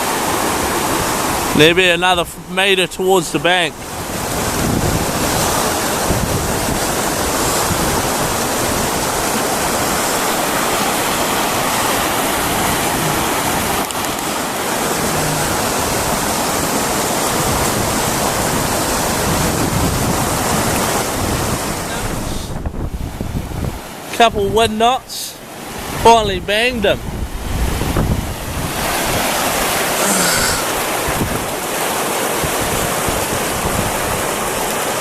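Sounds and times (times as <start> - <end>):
river water rushing: 0.0 - 35.0
wind buffeting microphone: 3.7 - 24.7, 25.7 - 35.0.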